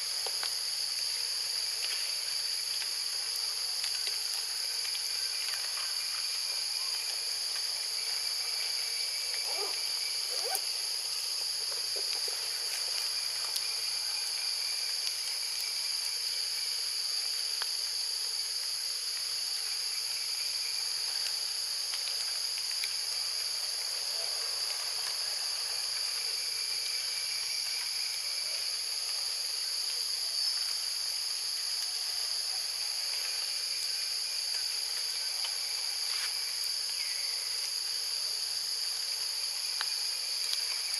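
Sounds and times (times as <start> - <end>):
insect chorus buzzing: 0.0 - 40.9.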